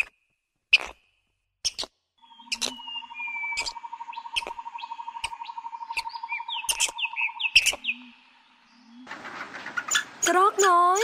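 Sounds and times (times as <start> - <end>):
rapid bird trill: 0.0 - 9.1
birds chirping and whistling: 0.8 - 11.0.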